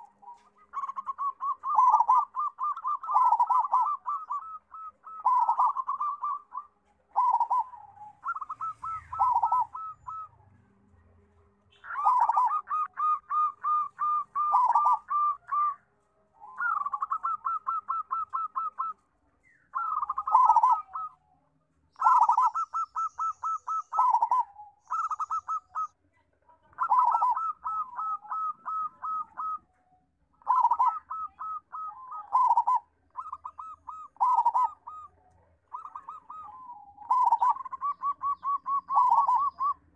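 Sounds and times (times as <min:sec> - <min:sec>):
dove cooing: 0:00.0 - 0:21.3, 0:21.9 - 0:39.9.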